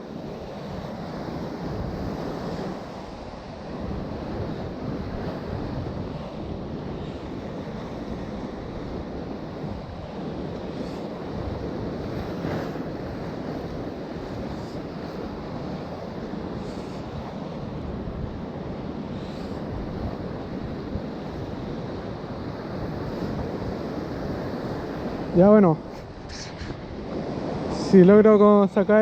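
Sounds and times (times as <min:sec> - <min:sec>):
sea surf washing in: 0:00.0 - 0:29.0
wind buffeting microphone: 0:00.3 - 0:29.0.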